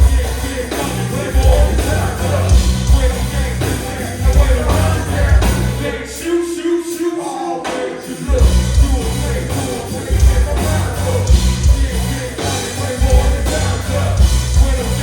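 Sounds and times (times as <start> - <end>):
music with heavy bass beat: 0.0 - 6.4, 8.0 - 15.0
person singing: 0.0 - 15.0.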